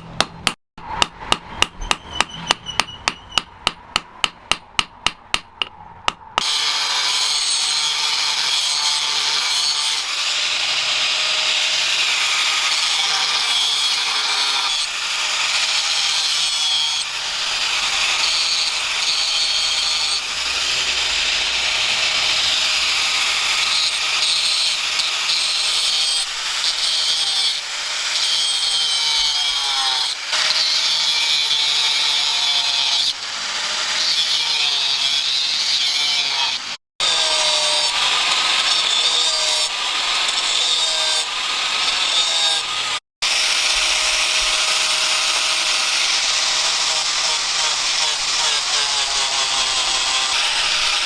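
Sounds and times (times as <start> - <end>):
power tool grinding: 6.4 - 51.0.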